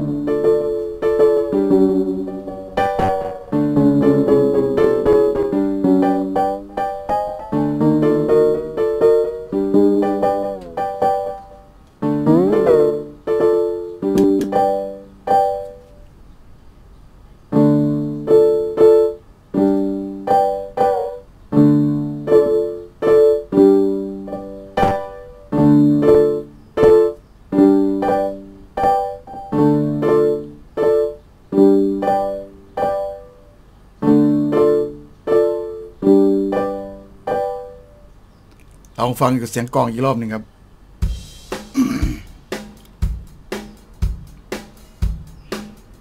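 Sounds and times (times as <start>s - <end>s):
piano chords: 0.0s - 16.3s, 17.1s - 38.3s.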